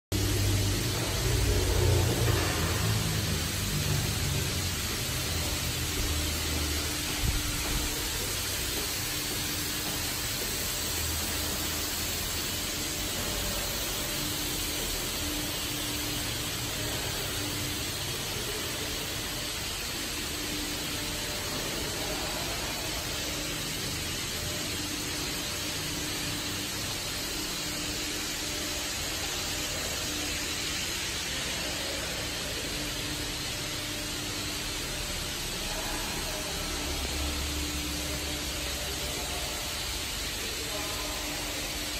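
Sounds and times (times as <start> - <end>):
steady hiss: 0.2 - 41.9.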